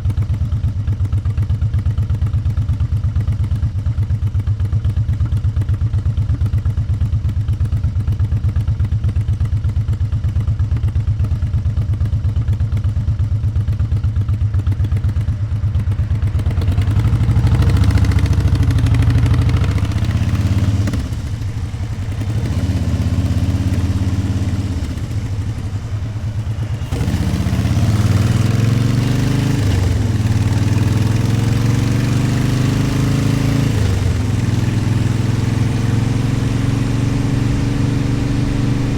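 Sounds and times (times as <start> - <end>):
motorcycle engine idling and accelerating: 0.0 - 38.9.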